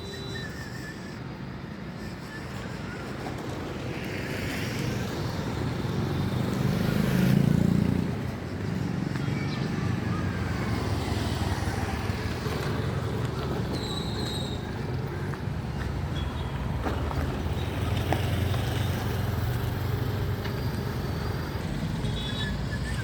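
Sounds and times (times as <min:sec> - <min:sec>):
road vehicle engine running: 0:02.4 - 0:23.0.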